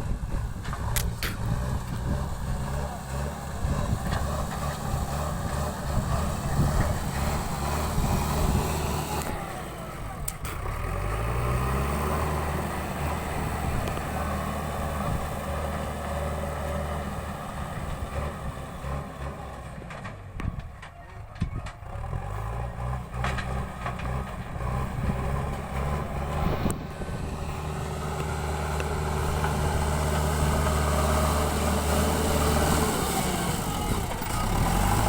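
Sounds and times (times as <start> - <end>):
diesel engine revving: 0.0 - 20.8, 21.6 - 35.0.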